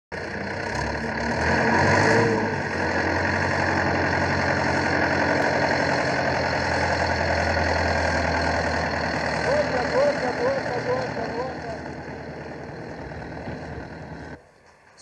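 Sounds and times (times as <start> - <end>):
tractor engine under load: 0.1 - 14.6.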